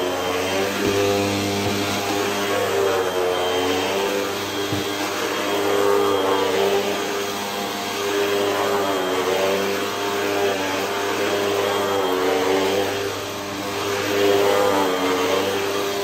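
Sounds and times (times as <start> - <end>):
vacuum cleaner running over carpet: 0.0 - 16.0.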